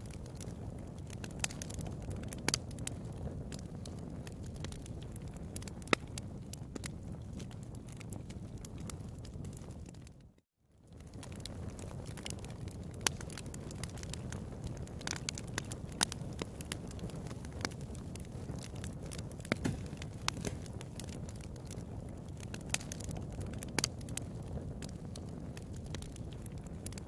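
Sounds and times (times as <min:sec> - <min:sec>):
sharp pops of fire: 0:00.0 - 0:10.0, 0:11.0 - 0:27.0
wood fire crackling: 0:00.0 - 0:27.0.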